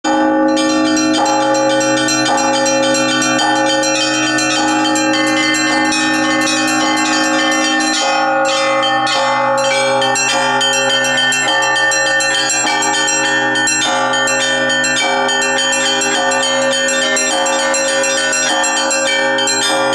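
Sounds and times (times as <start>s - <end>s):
small bells ringing rapidly: 0.0s - 19.9s
deep bell striking: 0.1s - 19.9s.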